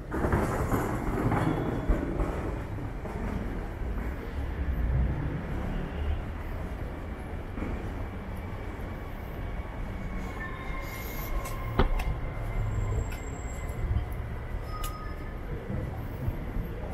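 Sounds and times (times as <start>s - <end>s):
traffic rumble: 0.0s - 16.9s.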